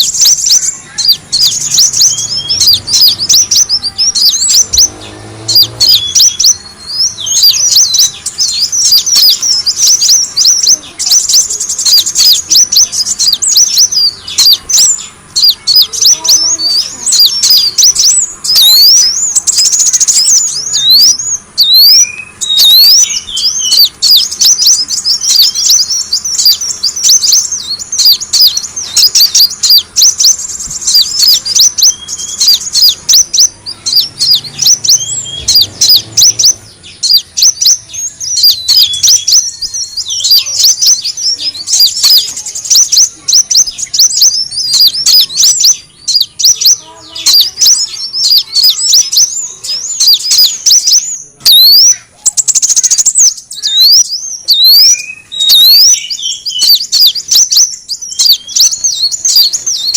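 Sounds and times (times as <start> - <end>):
sunbird chirping: 0.0 - 59.9.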